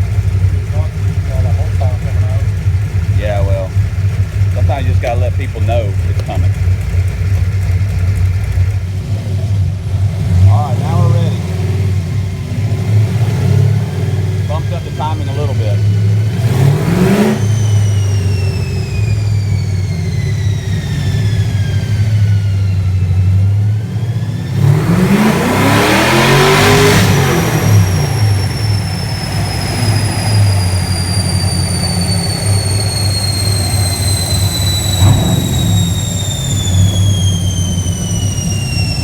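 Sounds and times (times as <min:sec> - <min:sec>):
car engine running: 0:00.0 - 0:39.0
high whine of spinning rollers: 0:00.0 - 0:39.0.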